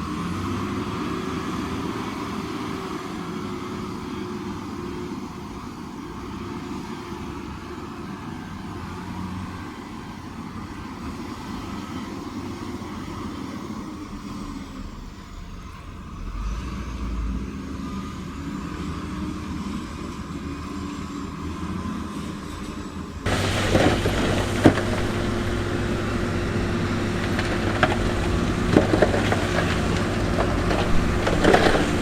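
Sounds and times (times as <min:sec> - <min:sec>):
diesel engine rumbling: 0:00.0 - 0:20.5, 0:21.8 - 0:32.0.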